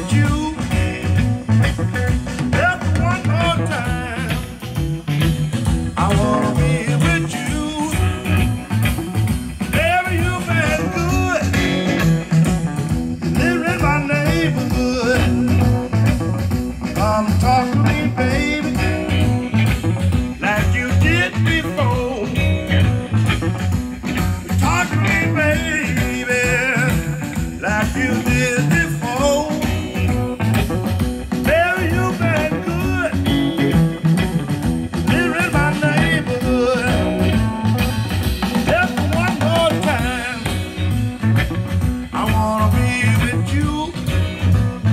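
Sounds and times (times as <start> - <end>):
blues record with guitar and singing: 0.0 - 44.9.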